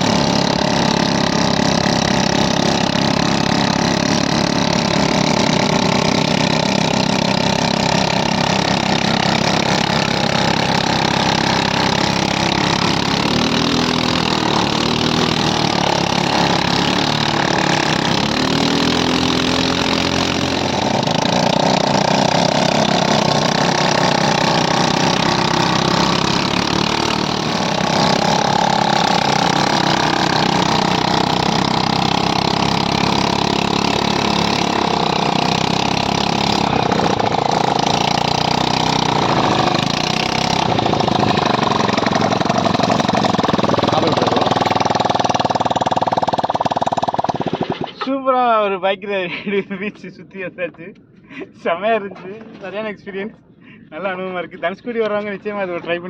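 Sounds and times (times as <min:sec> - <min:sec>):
atv engine running: 0:00.0 - 0:48.1.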